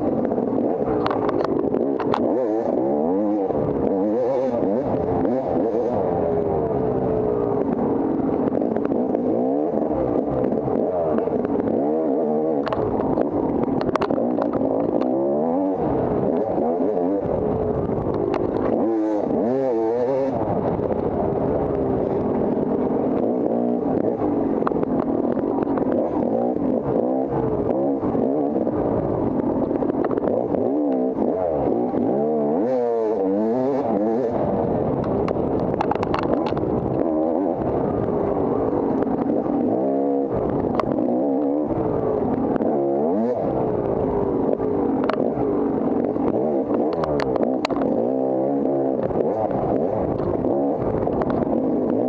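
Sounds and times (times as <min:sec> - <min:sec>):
dirt bike engine revving: 0:00.0 - 0:52.0
sharp clicks and clatter: 0:00.0 - 0:52.0.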